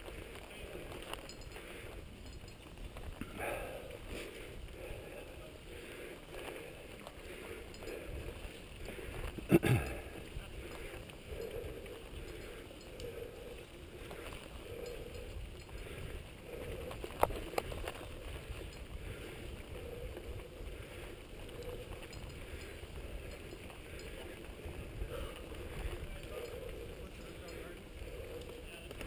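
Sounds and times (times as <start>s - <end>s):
bike rattling: 0.0s - 29.0s
bike tyres rumbling on dirt trail: 0.0s - 29.0s.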